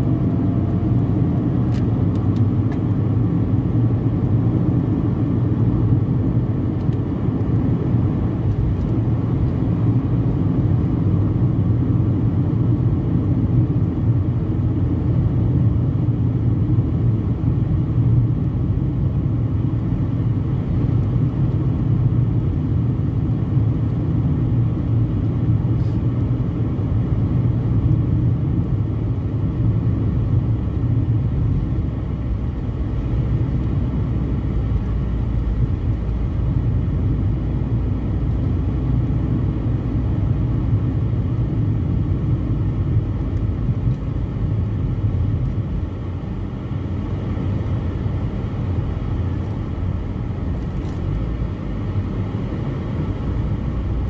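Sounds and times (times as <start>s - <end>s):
car engine rumble: 0.0s - 54.0s
tyre-on-road noise: 0.0s - 54.0s.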